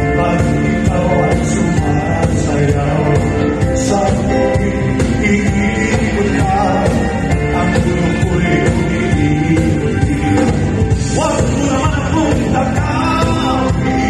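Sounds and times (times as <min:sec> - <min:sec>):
live band with singing: 0:00.0 - 0:14.0.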